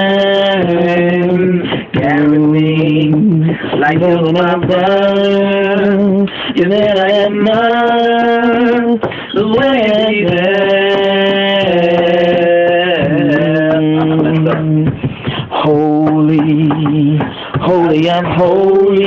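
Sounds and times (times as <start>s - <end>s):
person singing unaccompanied: 0.0s - 19.0s.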